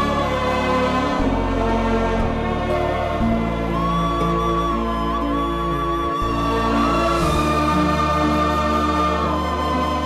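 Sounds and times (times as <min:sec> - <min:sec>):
sustained orchestral chords: 0:00.0 - 0:10.0.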